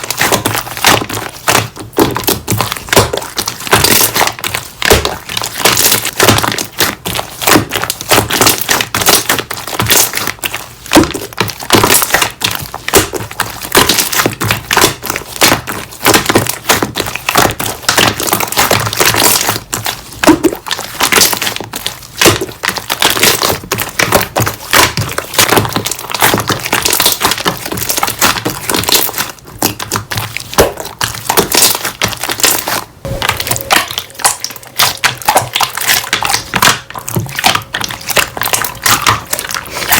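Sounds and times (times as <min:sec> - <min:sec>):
slime squeezed crackling: 0:00.0 - 0:39.9.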